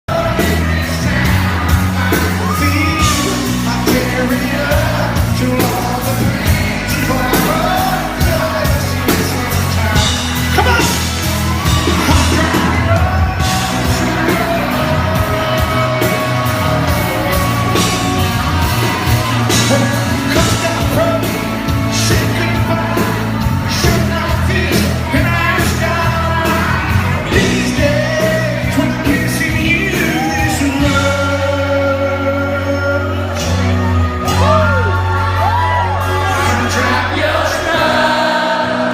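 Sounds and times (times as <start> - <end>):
crowd yelling: 0.1 - 38.9
live country band: 0.1 - 38.9
man singing lead: 0.1 - 38.9.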